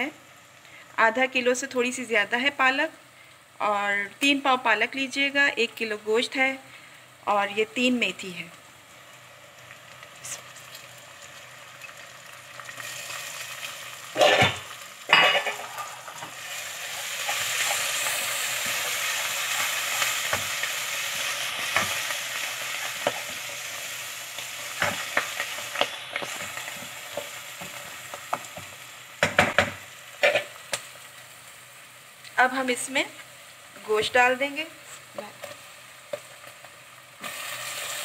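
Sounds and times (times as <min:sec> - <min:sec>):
leaves frying and sizzling: 0:00.0 - 0:38.0.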